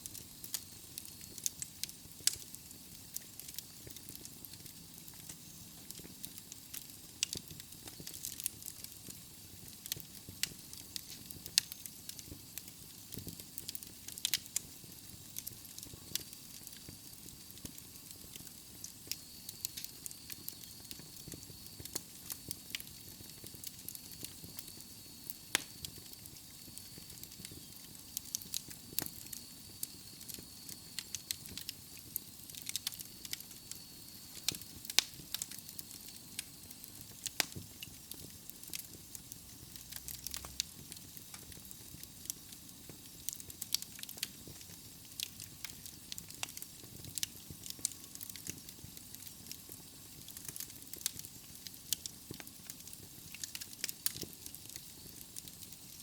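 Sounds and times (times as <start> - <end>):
low steady fire hiss: 0.0 - 56.0
logs crackling and popping: 0.1 - 56.0.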